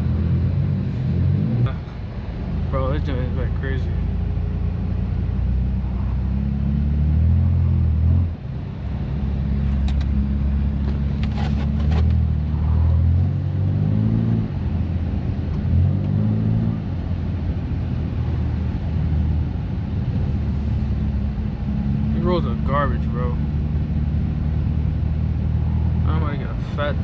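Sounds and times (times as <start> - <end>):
car engine revving while driving: 0.0 - 27.0.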